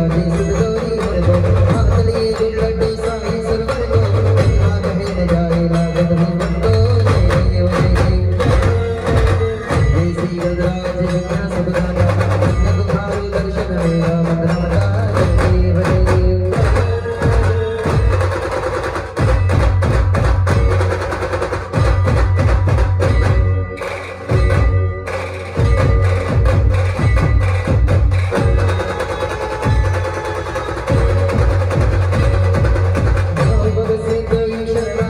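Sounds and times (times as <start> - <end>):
band music over loudspeakers: 0.0 - 35.0
drums beaten with sticks: 0.0 - 35.0.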